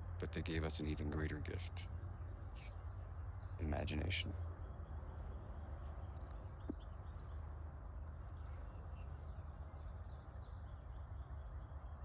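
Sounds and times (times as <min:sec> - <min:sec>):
small birds chirping: 0:00.6 - 0:12.0.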